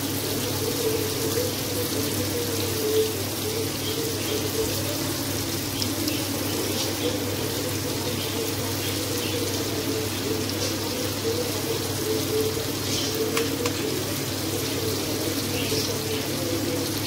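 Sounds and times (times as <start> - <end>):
low hum and hiss: 0.0 - 17.0
water splashing and dripping: 0.0 - 17.0.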